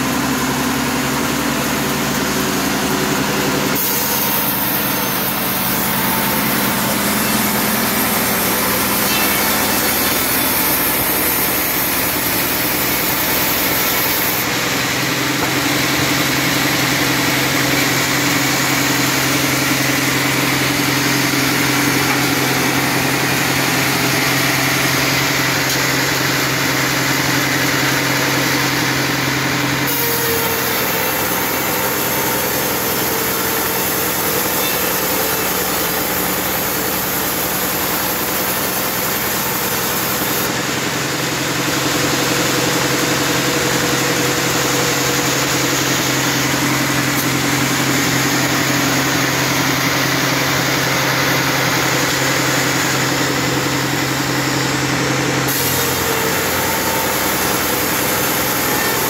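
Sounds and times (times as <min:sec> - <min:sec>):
band sawmill motor hum: 0:00.0 - 0:59.0
saw blade cutting log: 0:00.0 - 0:59.0.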